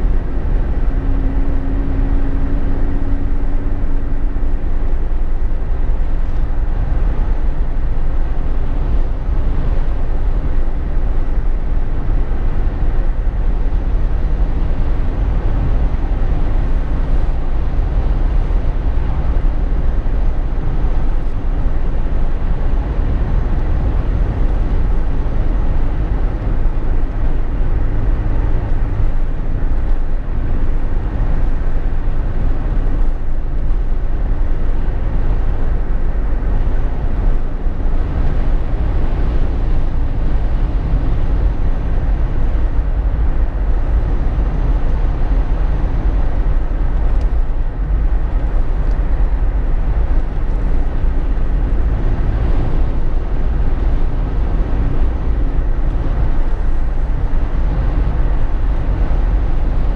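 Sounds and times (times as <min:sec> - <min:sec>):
car cabin road noise: 0:00.0 - 0:59.9.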